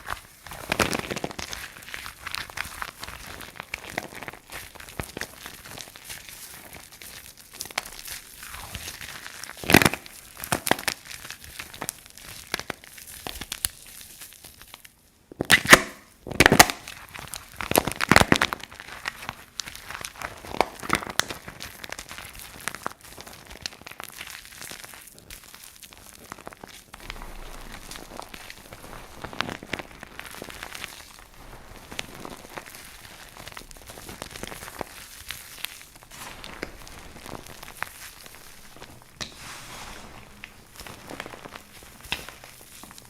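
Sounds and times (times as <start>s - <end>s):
dry soap crunching and crackling: 0.0s - 43.0s.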